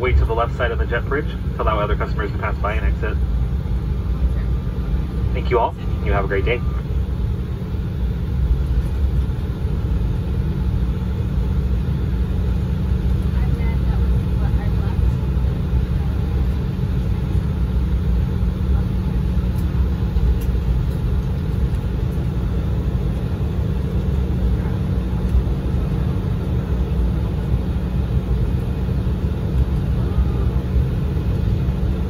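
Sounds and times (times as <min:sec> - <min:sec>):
jet engines idling in cabin: 0:00.0 - 0:32.0.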